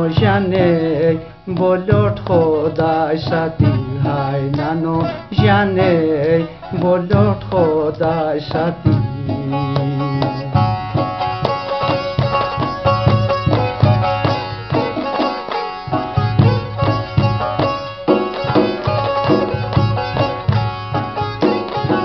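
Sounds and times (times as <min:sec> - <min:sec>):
hand drum rhythm: 0:00.0 - 0:22.0
plucked string melody: 0:00.0 - 0:22.0.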